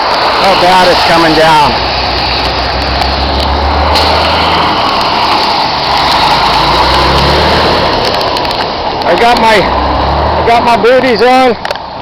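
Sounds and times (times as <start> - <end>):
heavy rain: 0.0 - 12.0
vehicle engine humming: 0.0 - 12.0.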